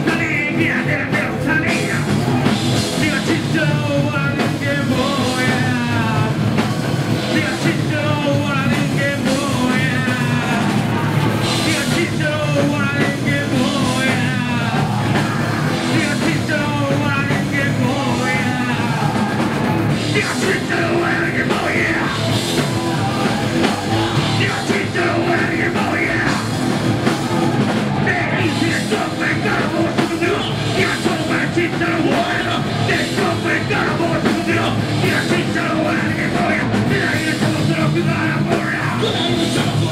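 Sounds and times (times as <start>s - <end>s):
rock band playing live: 0.0s - 39.9s
singer's vocals: 0.0s - 39.9s.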